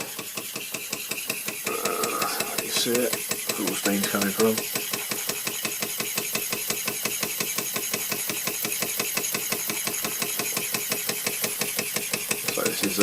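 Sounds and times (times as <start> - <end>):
toy steam engine chuffing: 0.0 - 13.0.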